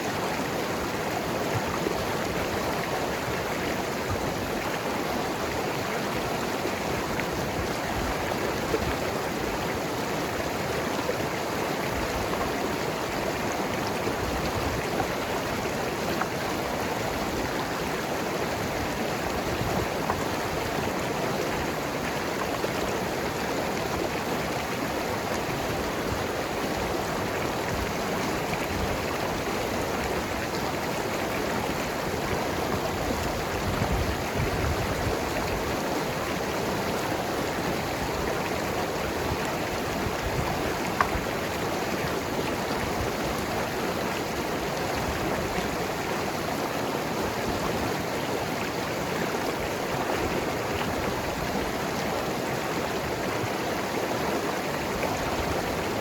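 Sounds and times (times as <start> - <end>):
river gurgling over rocks: 0.0 - 56.0.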